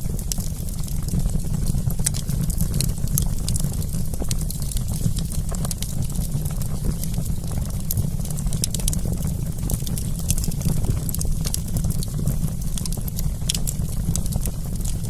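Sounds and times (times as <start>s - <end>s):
campfire pops and crackles: 0.0s - 15.0s
low rumble of flames: 0.0s - 15.0s.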